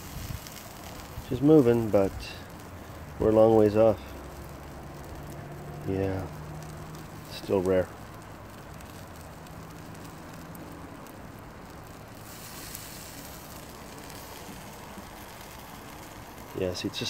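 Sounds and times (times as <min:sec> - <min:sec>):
steak sizzling over charcoal: 0:00.0 - 0:17.0.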